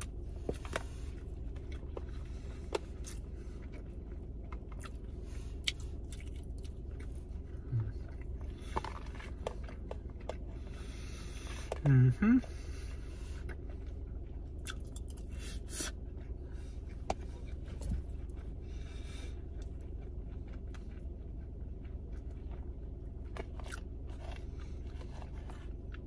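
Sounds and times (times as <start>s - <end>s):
low hum: 0.0s - 26.0s
mouth chewing food: 0.0s - 26.0s.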